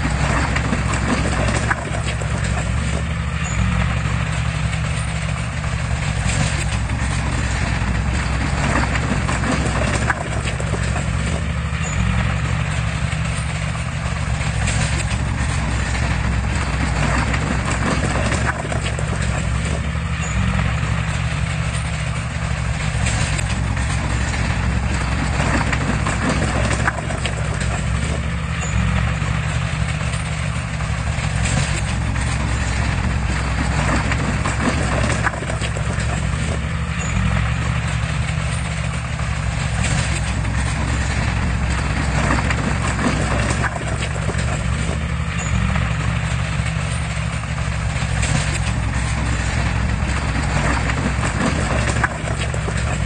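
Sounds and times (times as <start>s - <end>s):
diesel engine droning: 0.0s - 53.0s
machine knocks and rattles: 0.0s - 53.0s.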